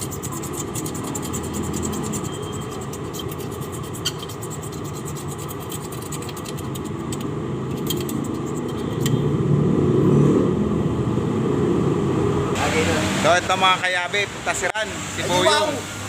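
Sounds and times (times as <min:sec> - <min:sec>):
vehicle engine rumbling: 0:00.0 - 0:13.4.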